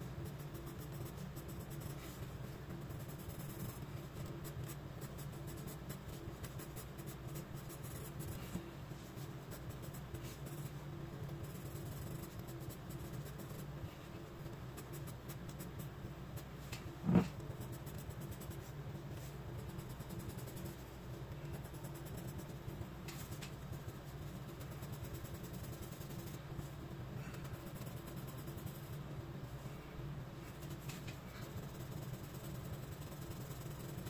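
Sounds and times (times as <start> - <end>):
pencil scratching on paper: 0.0 - 26.4, 27.2 - 29.1, 30.4 - 34.0
low steady hum: 0.0 - 34.0.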